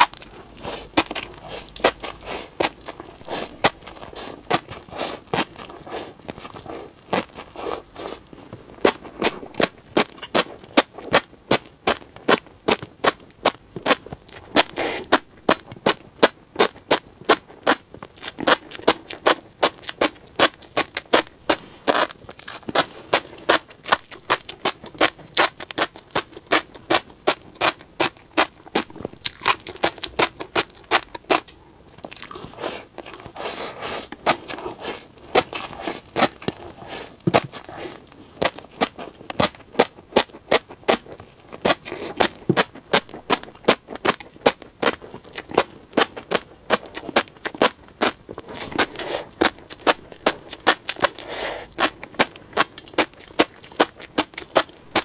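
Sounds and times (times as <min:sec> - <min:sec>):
chewing fish roe popping: 0:00.0 - 0:55.0.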